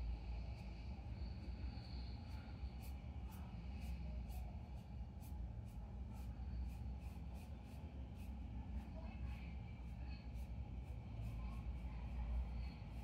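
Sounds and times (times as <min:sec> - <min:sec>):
steady low hum: 0:00.0 - 0:13.0
paintbrush strokes on paper: 0:00.4 - 0:13.0.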